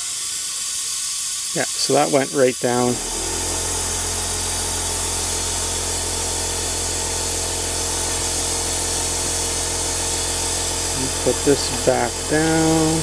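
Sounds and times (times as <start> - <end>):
air compressor running: 0.0 - 13.0.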